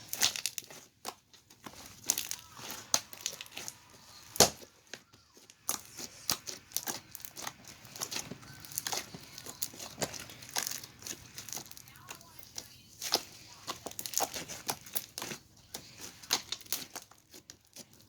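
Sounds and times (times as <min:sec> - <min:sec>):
hands squishing slime: 0:00.0 - 0:18.0.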